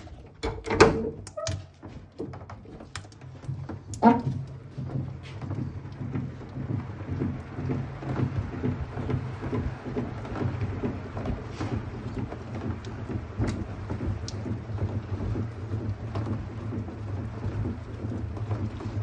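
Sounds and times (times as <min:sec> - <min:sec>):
spinning drum hum and rattle: 0:00.0 - 0:19.0.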